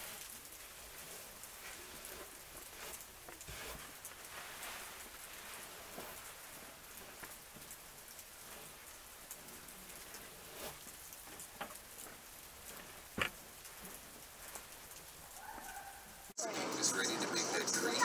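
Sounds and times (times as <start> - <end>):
precipitation hiss: 0.0 - 15.4.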